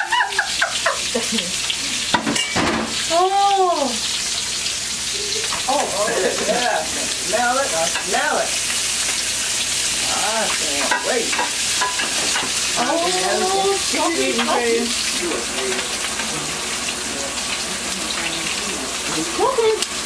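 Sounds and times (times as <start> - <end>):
crab frying in oil: 0.0 - 20.0.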